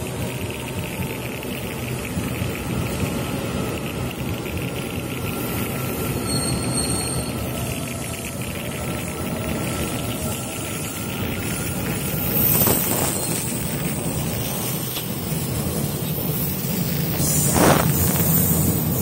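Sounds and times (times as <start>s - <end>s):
train rolling past: 0.0s - 19.0s.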